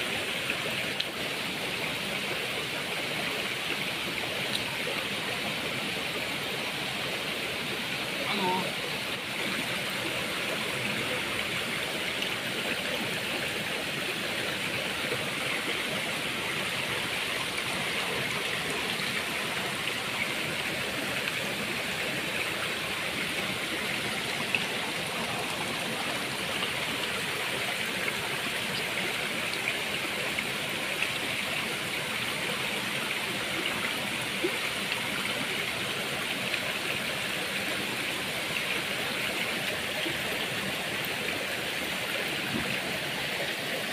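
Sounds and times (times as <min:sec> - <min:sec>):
stream splashing over stones: 0:00.0 - 0:43.9.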